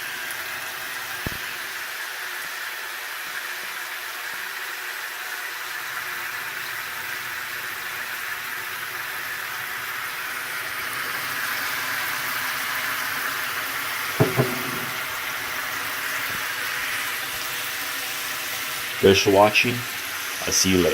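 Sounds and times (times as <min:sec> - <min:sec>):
steak sizzling in a frying pan: 0:00.0 - 0:20.9.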